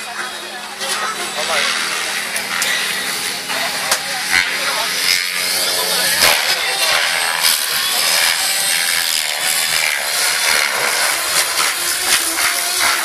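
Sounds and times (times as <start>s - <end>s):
model helicopter buzzing whine: 0.0s - 13.0s.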